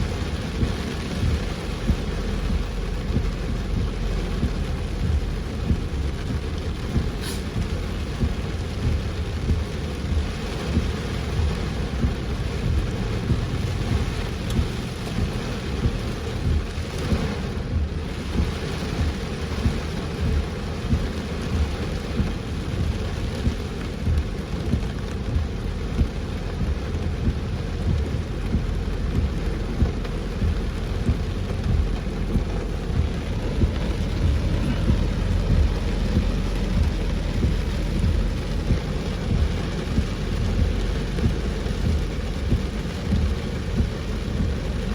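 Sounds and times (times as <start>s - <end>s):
big raindrops hitting: 0.0s - 44.9s
heavy rain on a car: 0.0s - 44.9s
low rumble: 0.0s - 44.9s.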